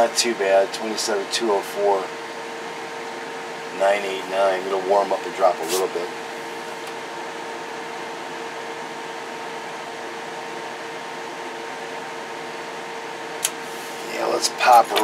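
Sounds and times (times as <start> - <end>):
equipment hum and hiss: 0.0 - 15.0.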